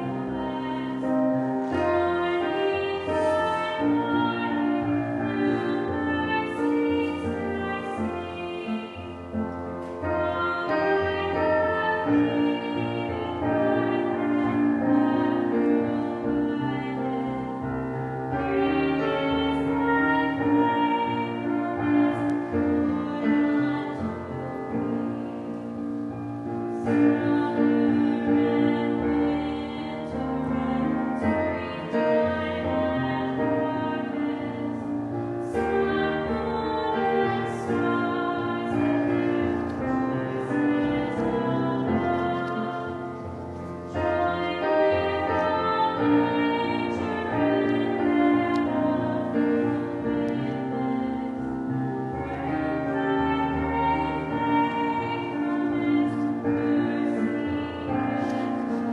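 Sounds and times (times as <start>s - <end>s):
slow keyboard prelude music: 0.0s - 58.9s.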